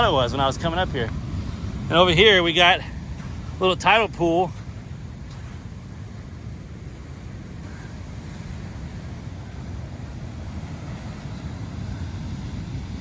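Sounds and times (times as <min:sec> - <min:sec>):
surf on rocky beach: 0:00.0 - 0:13.0
wind: 0:00.0 - 0:13.0.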